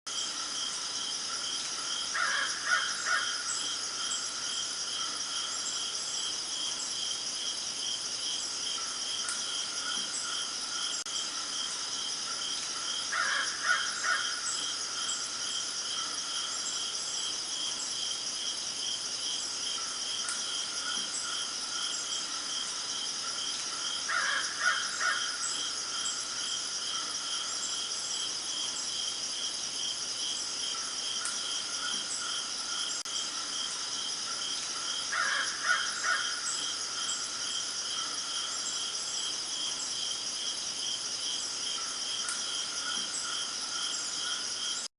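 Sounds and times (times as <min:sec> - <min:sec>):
crickets chirring: 0:00.1 - 0:44.9.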